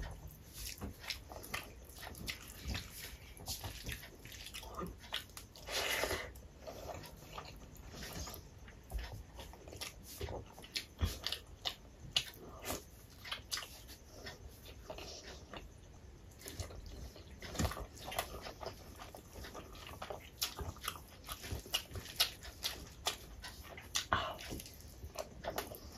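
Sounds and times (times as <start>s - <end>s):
wet chewing and lip-smacking: 0.0s - 25.9s.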